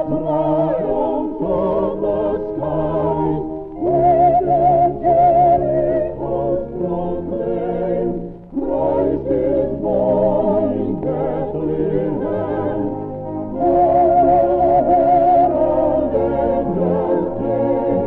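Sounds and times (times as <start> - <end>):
instrumental accompaniment: 0.0 - 18.0
old recorded choir singing: 0.0 - 18.0.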